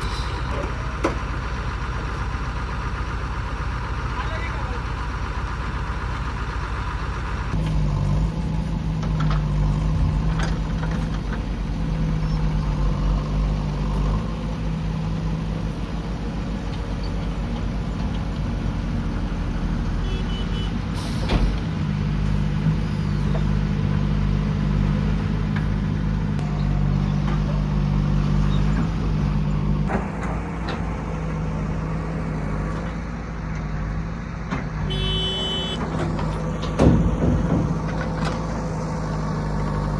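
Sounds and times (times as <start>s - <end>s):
diesel machinery engine: 0.0s - 39.9s.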